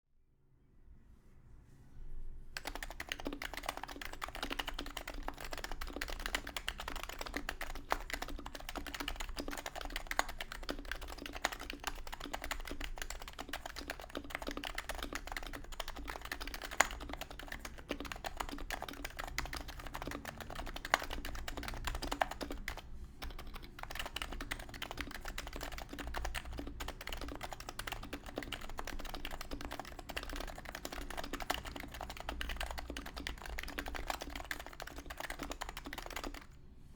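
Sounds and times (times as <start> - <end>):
keyboard typing: 2.6 - 36.6.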